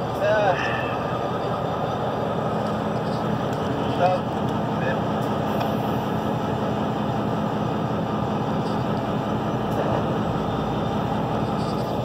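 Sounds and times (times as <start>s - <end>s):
diesel locomotives idling: 0.0s - 12.0s.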